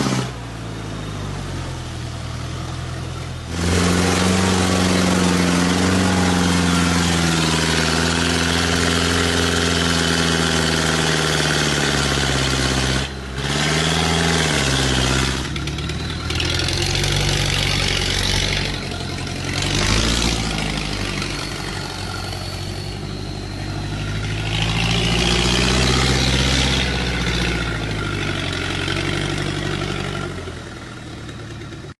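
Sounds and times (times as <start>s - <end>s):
truck engine running under load: 0.0s - 32.0s.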